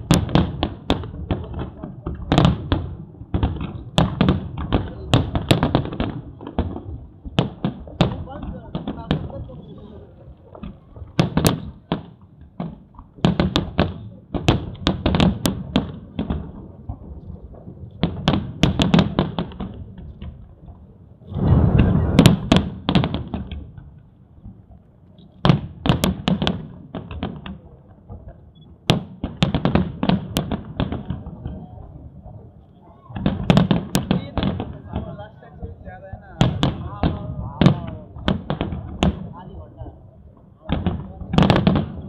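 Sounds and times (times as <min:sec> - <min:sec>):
fireworks bursting with bangs: 0:00.0 - 0:42.0.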